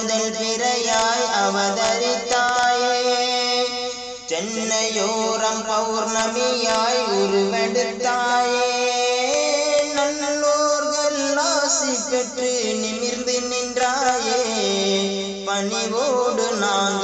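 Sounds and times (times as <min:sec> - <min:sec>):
person singing long notes: 0:00.0 - 0:17.0.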